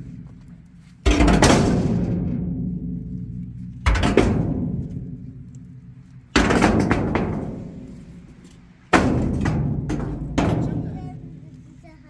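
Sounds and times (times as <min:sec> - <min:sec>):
heavy booming hits: 0:01.0 - 0:11.7.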